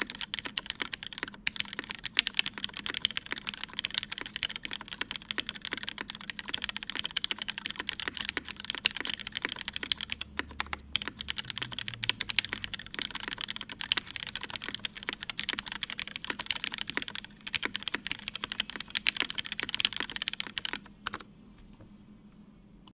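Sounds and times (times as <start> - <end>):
mechanical keyboard typing: 0.0 - 21.3.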